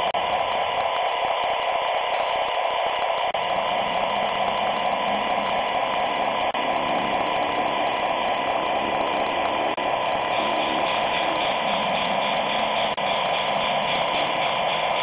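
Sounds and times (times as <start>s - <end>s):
model locomotive motor whirring: 0.0s - 15.0s.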